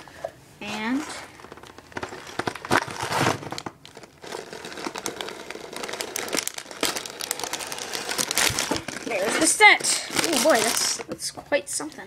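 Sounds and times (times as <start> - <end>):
plastic bags crinkling: 1.1 - 11.2.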